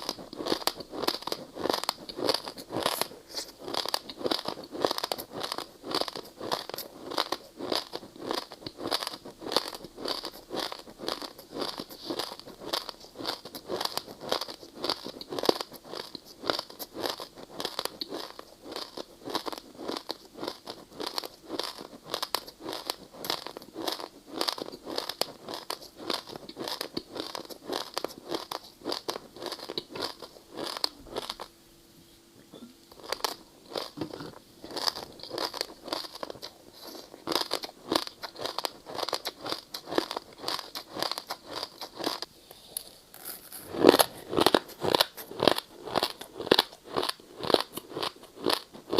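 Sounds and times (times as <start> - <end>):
ice being chewed: 0.0 - 31.5, 32.9 - 48.9.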